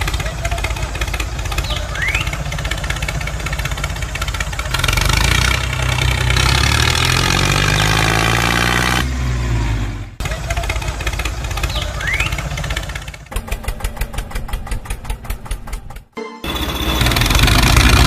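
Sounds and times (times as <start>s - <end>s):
tractor engine chugging: 0.0s - 7.6s, 10.2s - 18.0s.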